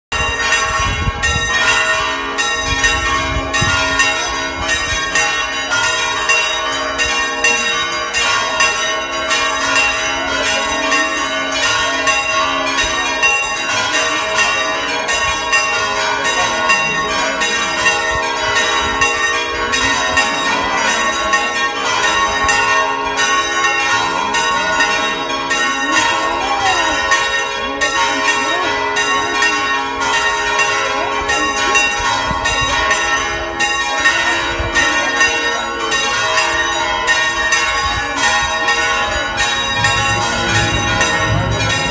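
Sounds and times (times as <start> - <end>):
church bells pealing: 0.1 - 41.9.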